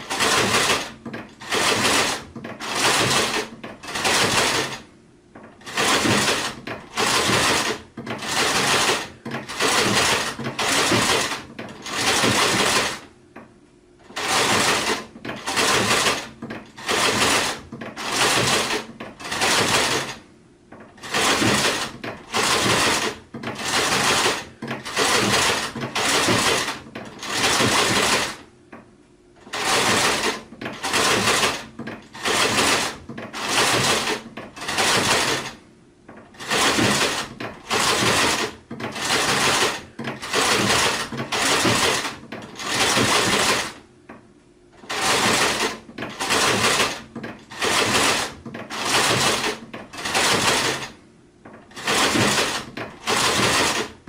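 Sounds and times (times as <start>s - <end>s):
sewing machine stitching: 0.0s - 13.1s, 14.0s - 28.5s, 29.4s - 43.8s, 44.8s - 54.0s.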